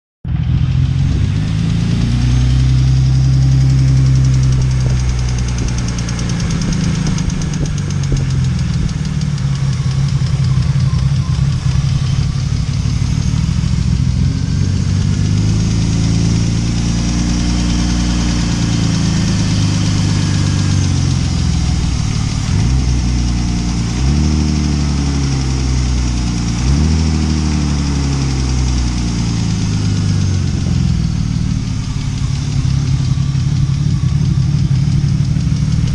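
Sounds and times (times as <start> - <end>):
car engine idling: 0.3 - 35.9
engine throttle blips: 0.3 - 35.9.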